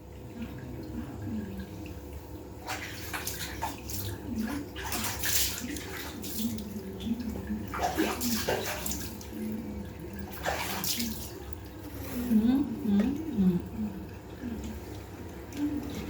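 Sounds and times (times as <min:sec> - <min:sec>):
steady low hum: 0:00.0 - 0:16.0
water splashing and pouring: 0:02.5 - 0:16.0.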